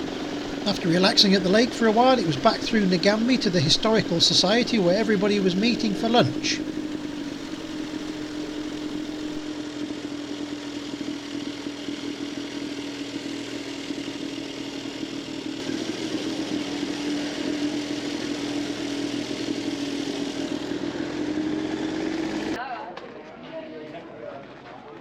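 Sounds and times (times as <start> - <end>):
motorcycle engine running: 0.0 - 22.6.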